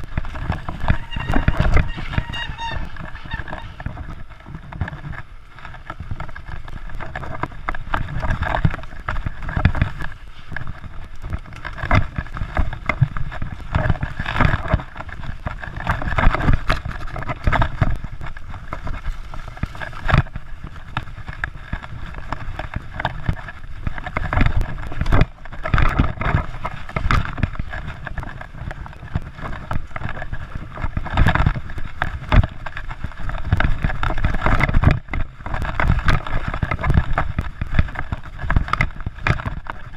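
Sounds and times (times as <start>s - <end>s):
bike rattling and knocking: 0.0s - 39.9s
tyres rumbling on dirt: 0.0s - 39.9s.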